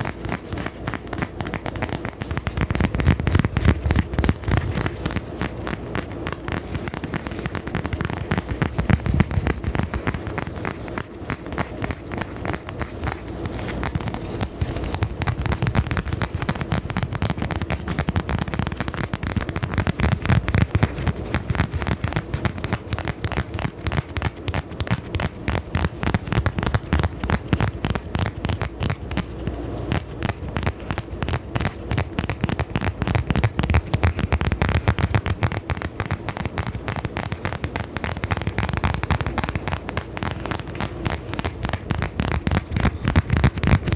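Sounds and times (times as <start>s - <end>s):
rapid crackling and clicking: 0.0s - 43.9s.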